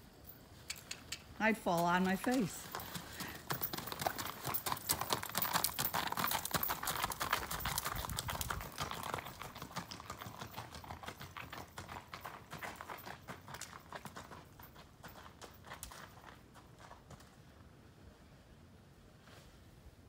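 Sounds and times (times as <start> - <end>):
horse hoofbeats: 0.7 - 17.6.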